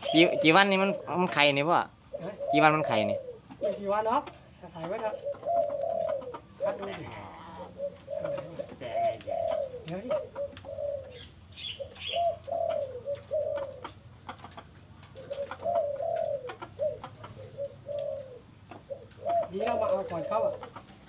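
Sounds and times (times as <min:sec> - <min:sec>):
doves cooing: 0:00.0 - 0:21.0.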